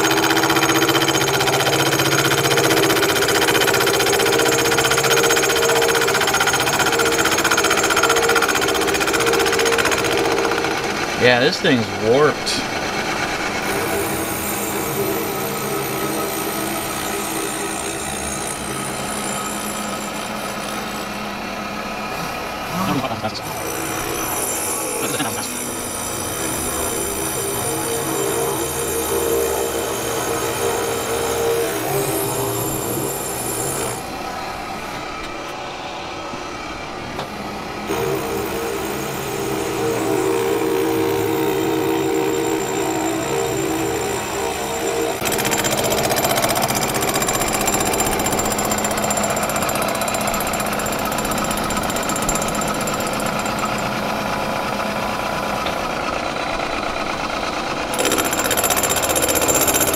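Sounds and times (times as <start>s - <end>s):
cutter grinding metal: 0.0s - 35.4s, 36.6s - 59.9s
milling spindle whine: 0.0s - 59.9s.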